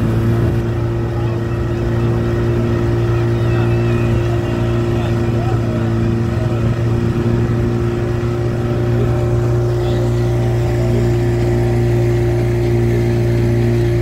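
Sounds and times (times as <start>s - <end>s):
motorboat engine droning: 0.0s - 14.0s.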